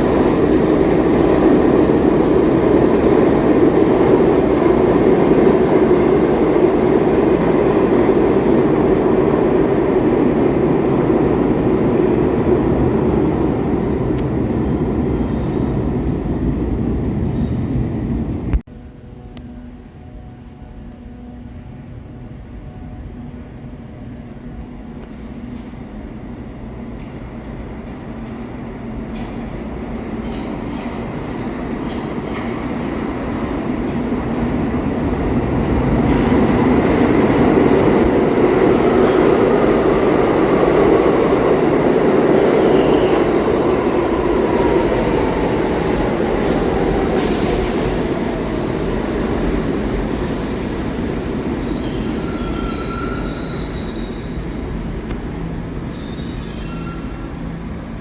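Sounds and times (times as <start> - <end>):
subway train rumble: 0.0 - 58.0.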